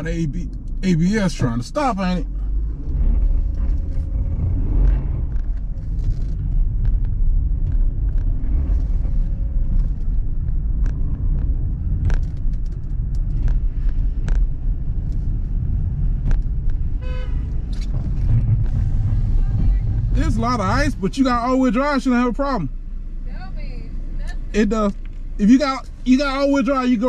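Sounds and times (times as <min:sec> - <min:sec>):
tyres and engine rumble: 0:00.0 - 0:27.0.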